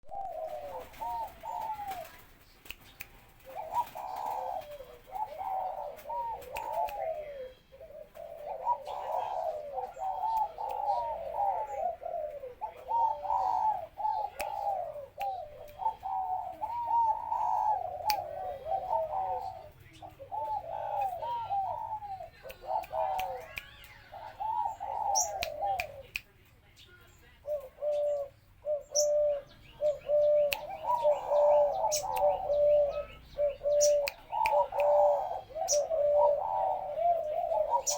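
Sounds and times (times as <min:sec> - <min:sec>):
dove cooing: 0:00.0 - 0:02.6, 0:03.3 - 0:26.1, 0:27.4 - 0:37.9.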